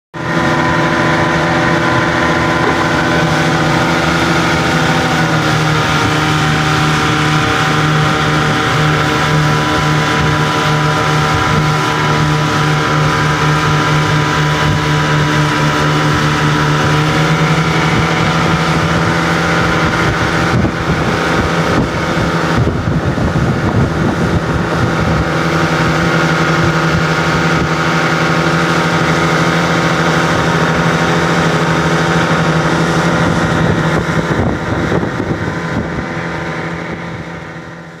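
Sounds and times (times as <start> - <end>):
outboard motor running: 0.1 - 38.0
wind over boat: 0.1 - 38.0
water rushing: 0.2 - 38.0.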